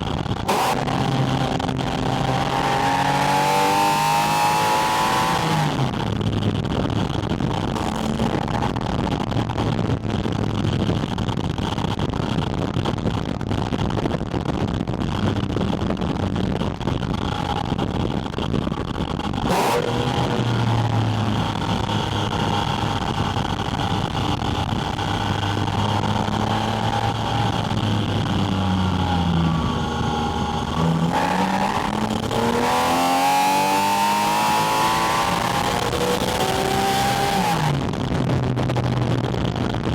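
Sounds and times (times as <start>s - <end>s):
car engine revving: 0.0s - 11.6s, 19.3s - 39.9s
heavy wind noise: 0.0s - 39.9s.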